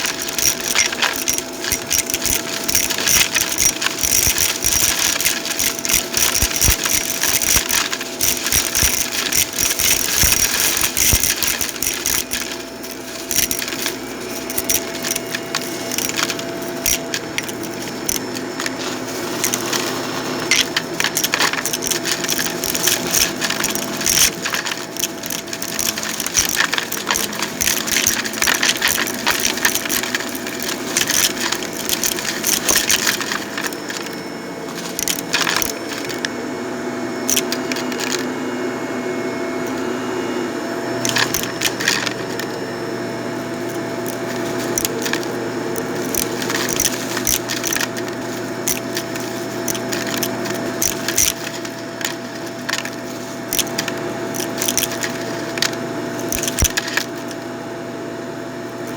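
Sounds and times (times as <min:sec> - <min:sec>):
debris crackling and clicking: 0:00.0 - 0:36.3, 0:37.3 - 0:38.3, 0:39.6 - 0:39.8, 0:41.0 - 0:42.6, 0:43.5 - 0:57.4
vacuum cleaner running: 0:00.0 - 0:58.9.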